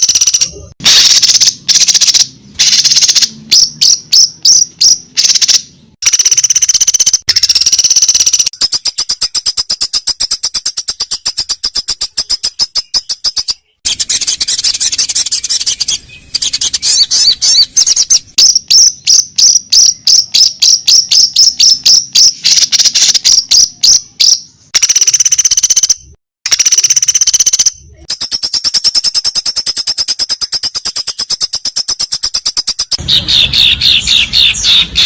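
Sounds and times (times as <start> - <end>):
songbird trilling: 0.0 - 35.0.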